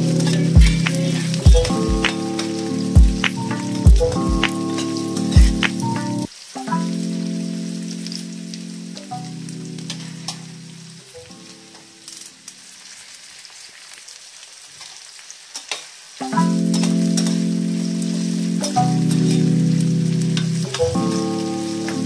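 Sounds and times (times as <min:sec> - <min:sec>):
background music of held chords: 0:00.0 - 0:12.6, 0:16.2 - 0:22.0
onions sizzling in oil: 0:00.0 - 0:22.0.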